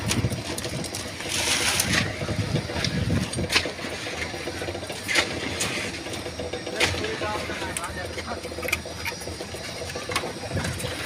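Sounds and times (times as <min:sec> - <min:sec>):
hoes scraping wet concrete: 0:00.0 - 0:09.2
engine running: 0:00.0 - 0:11.0.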